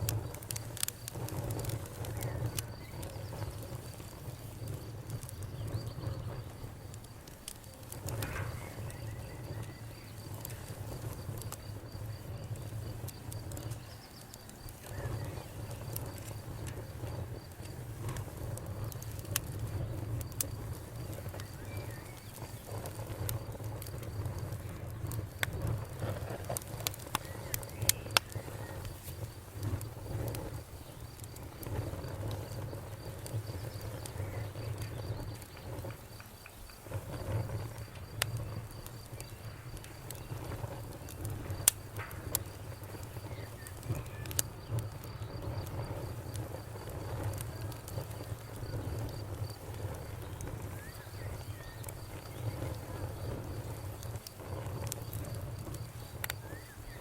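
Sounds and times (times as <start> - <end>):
burning wood crackling and popping: 0.0 - 57.0
flames rumbling: 0.0 - 57.0.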